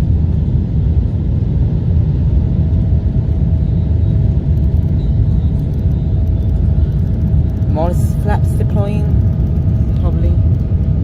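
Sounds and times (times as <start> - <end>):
aircraft engines rumbling in cabin: 0.0 - 11.0
faint steady whine: 0.0 - 11.0.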